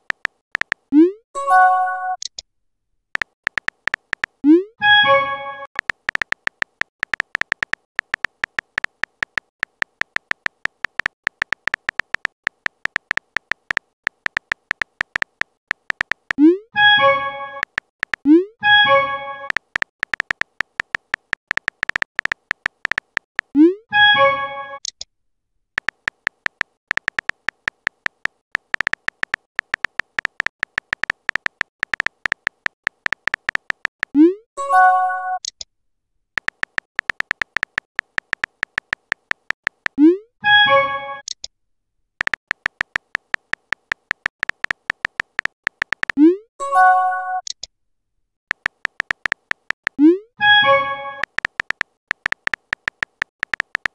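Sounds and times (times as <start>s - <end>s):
phone keyboard typing pips: 0.0s - 1.2s, 3.2s - 25.0s, 25.8s - 34.4s, 36.4s - 41.5s, 42.2s - 47.7s, 48.5s - 53.9s.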